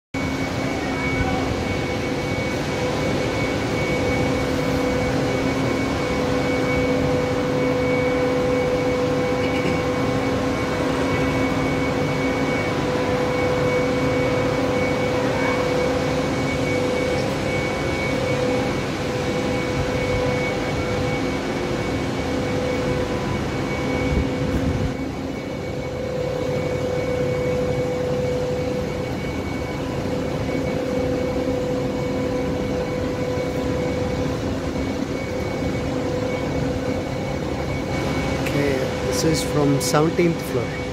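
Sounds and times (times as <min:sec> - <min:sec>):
high whine: 0:00.1 - 0:40.9
power plant machinery drone: 0:00.1 - 0:40.9.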